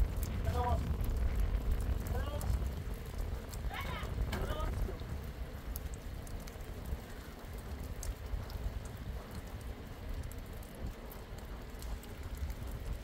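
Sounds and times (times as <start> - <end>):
sharp raindrop ticks: 0.0 - 13.0
steady rain falling: 0.0 - 13.0.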